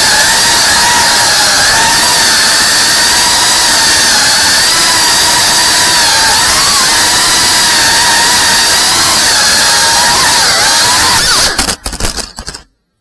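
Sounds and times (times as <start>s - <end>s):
drone propellers whining: 0.0s - 12.6s.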